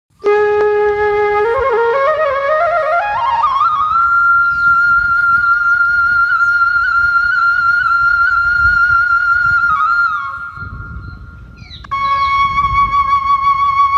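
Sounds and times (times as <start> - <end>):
flute melody: 0.1 - 13.9.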